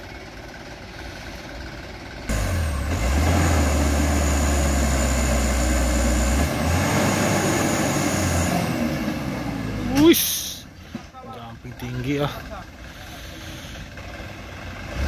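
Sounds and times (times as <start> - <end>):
truck diesel engine labouring: 0.0 - 15.0.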